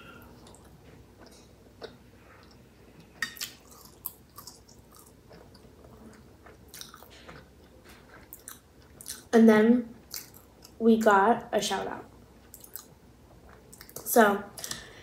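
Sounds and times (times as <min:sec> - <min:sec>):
person chewing food: 0:00.2 - 0:09.3, 0:10.0 - 0:10.8, 0:12.4 - 0:14.9.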